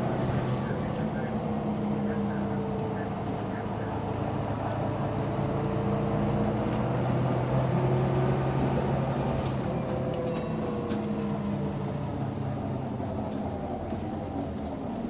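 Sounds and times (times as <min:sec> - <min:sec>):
bus diesel engine rumble: 0:00.0 - 0:15.0.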